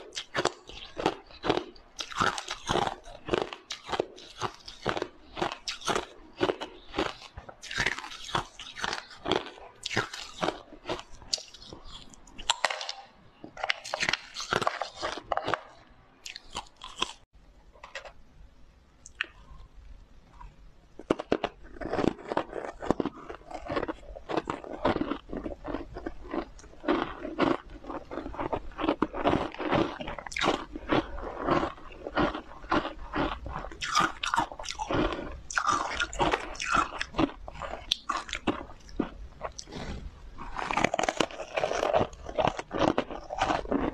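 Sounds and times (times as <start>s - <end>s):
ice being chewed crunching: 0.0s - 17.2s, 20.3s - 43.9s.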